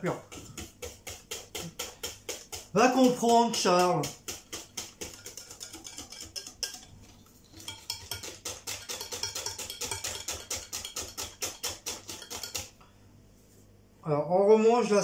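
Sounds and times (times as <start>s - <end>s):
whisk clicking against bowl: 0.1s - 12.8s.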